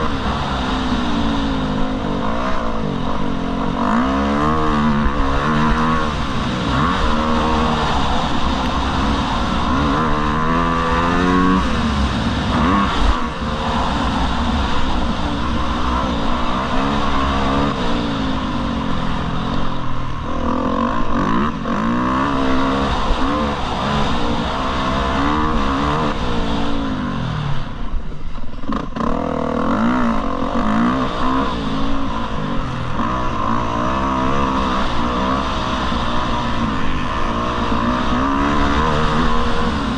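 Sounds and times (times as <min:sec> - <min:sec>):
dirt bike engine revving: 0:00.0 - 0:27.8, 0:28.7 - 0:39.9.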